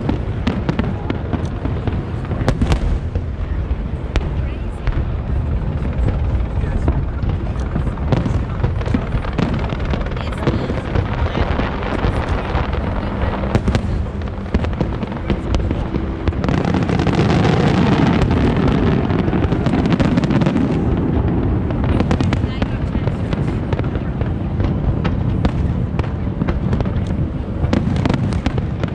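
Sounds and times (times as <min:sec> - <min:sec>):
fireworks popping and crackling: 0:00.0 - 0:28.9.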